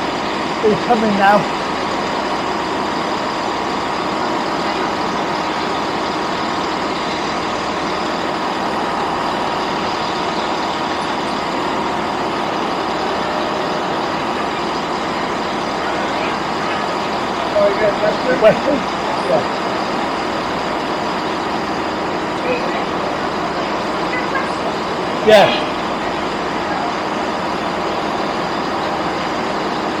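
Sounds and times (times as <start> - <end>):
diesel train idling hum: 0.0 - 30.0
faint steady whines: 0.0 - 30.0.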